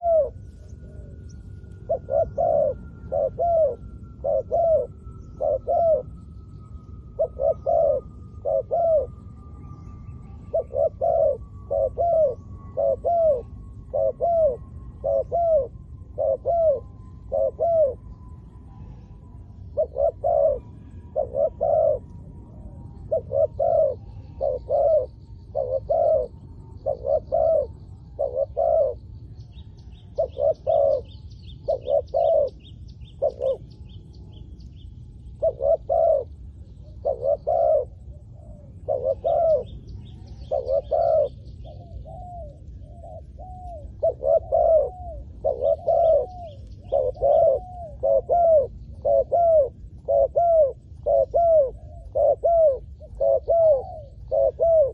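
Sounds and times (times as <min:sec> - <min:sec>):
dove cooing: 0:00.0 - 0:34.4, 0:35.2 - 0:54.9
small birds chirping faintly: 0:00.0 - 0:54.9.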